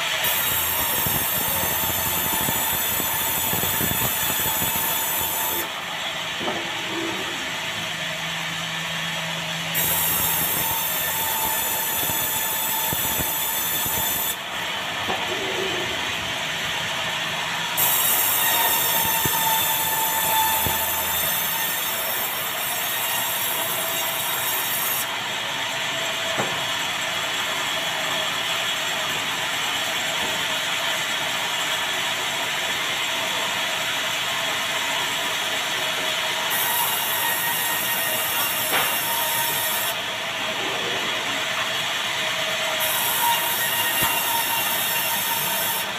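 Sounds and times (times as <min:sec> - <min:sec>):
band saw sawing timber: 0:00.0 - 0:28.1, 0:32.6 - 0:45.9.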